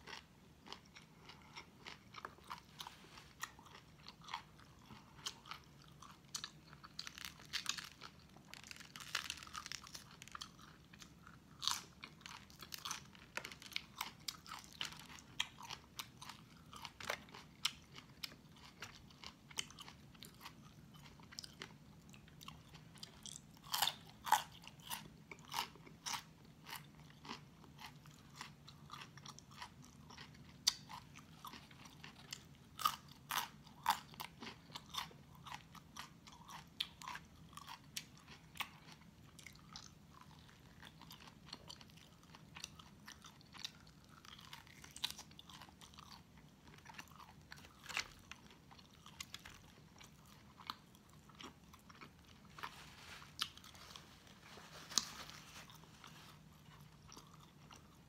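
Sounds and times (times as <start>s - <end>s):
crunching raw cauliflower: 0.0s - 58.0s.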